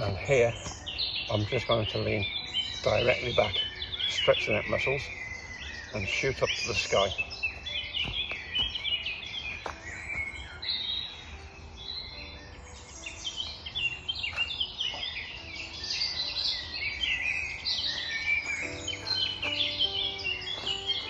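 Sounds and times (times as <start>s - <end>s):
birds chirping and warbling: 0.0s - 21.0s.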